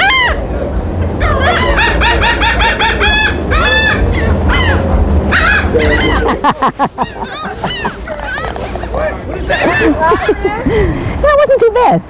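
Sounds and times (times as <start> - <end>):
gulls calling: 0.0 - 11.7
wind on microphone: 0.4 - 11.3.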